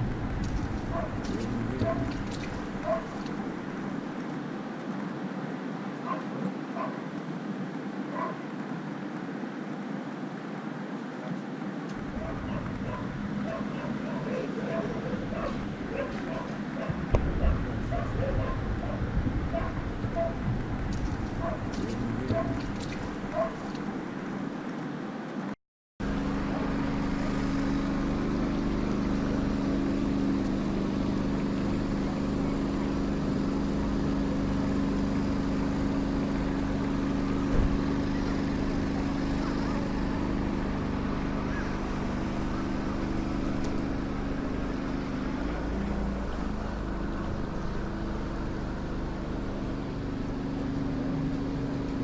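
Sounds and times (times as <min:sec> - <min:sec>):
motor humming: 0:00.0 - 0:04.2, 0:11.9 - 0:23.9, 0:26.0 - 0:52.0
constant rushing noise: 0:00.0 - 0:52.0.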